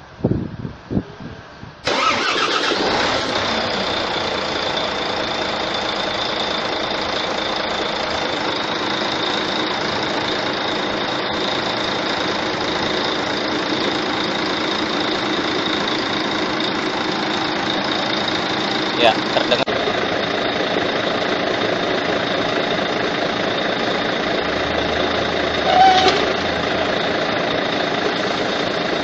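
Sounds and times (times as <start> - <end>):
fan bearing noise: 1.6 - 29.0
diesel truck engine idling: 1.8 - 29.0.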